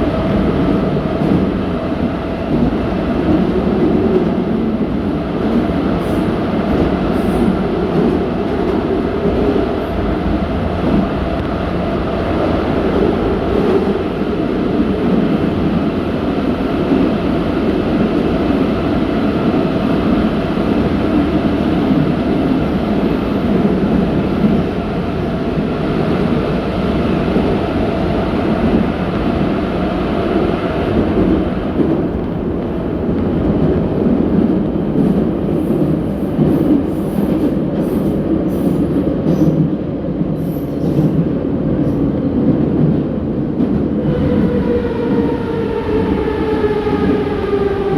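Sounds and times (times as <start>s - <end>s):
metro car wheels rumbling on rail: 0.0s - 47.9s.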